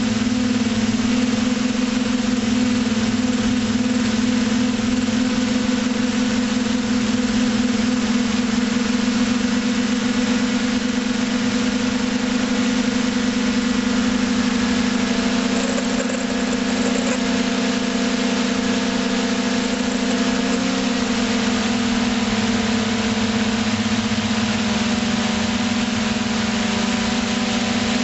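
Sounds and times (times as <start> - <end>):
drone motors humming: 0.0 - 28.0.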